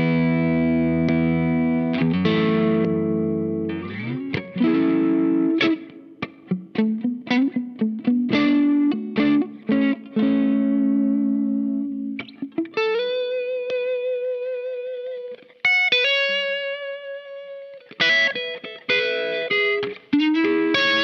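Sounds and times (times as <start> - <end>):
overdriven electric guitar: 0.0 - 21.0.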